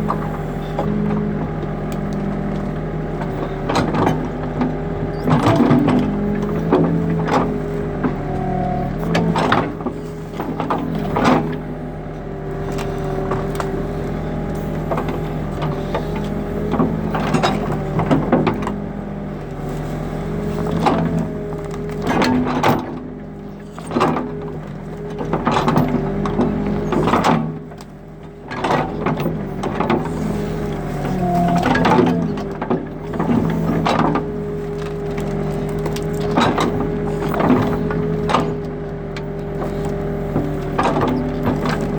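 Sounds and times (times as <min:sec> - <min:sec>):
backhoe diesel engine: 0:00.0 - 0:41.9.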